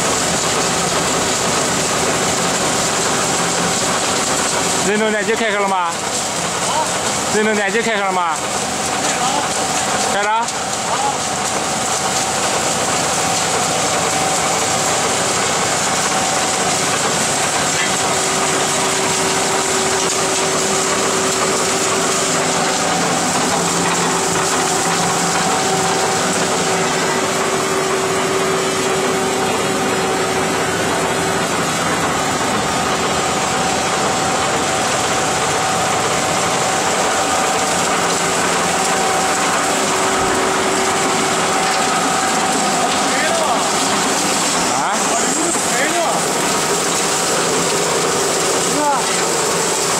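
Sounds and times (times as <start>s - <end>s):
soil spilling off conveyor: 0.0s - 49.9s
steady mechanical hums: 0.0s - 49.9s
trommel screen machinery running: 0.0s - 49.9s.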